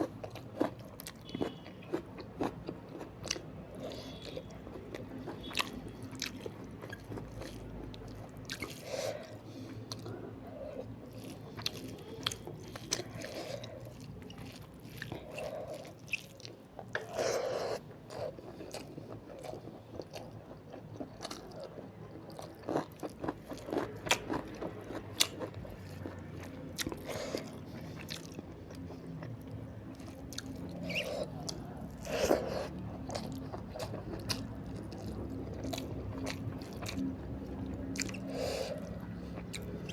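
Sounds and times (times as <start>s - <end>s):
wet chewing with mouth clicks: 0.0s - 39.9s.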